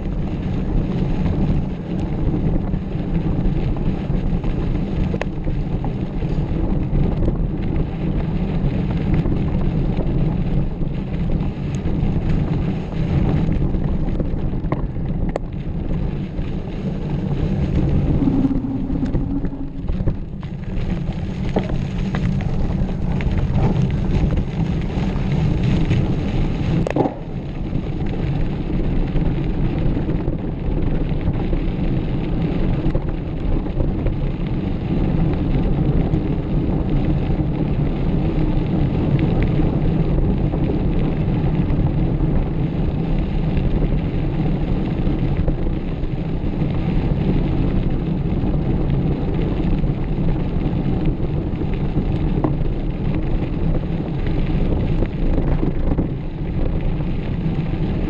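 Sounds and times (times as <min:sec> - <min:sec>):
mountain bike rumbling on dirt: 0:00.0 - 0:58.0
wind buffeting microphone: 0:00.0 - 0:58.0.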